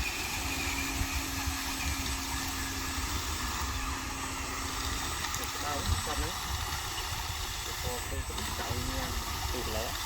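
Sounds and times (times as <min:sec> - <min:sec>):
motor humming: 0:00.0 - 0:10.0
noisy background: 0:00.0 - 0:10.0.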